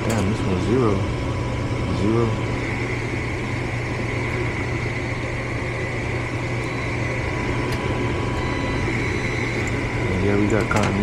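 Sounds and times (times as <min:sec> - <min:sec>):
furnace low hum: 0:00.0 - 0:11.0
high whine: 0:00.0 - 0:11.0.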